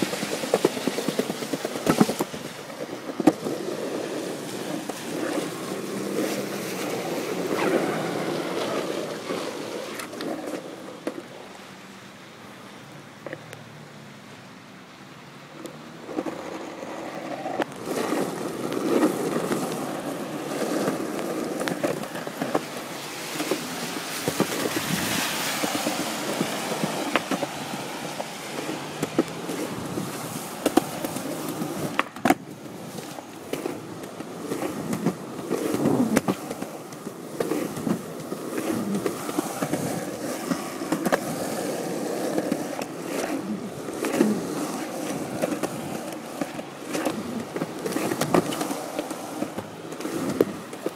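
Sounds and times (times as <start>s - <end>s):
sharp skateboard clack: 0.0s - 11.4s, 15.5s - 50.9s
skateboard clicks: 0.0s - 11.6s, 13.2s - 13.6s, 15.5s - 50.9s
skateboard wheels rolling on pavement: 0.0s - 50.9s.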